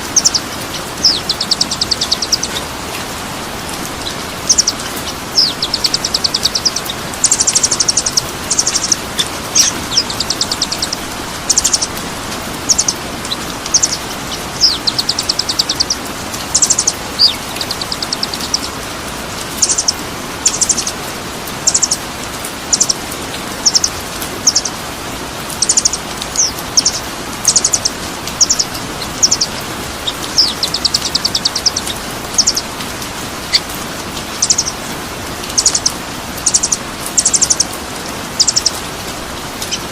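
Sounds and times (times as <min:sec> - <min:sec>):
songbird chirps and trills: 0:00.0 - 0:39.9
steady rushing hiss: 0:00.0 - 0:39.9.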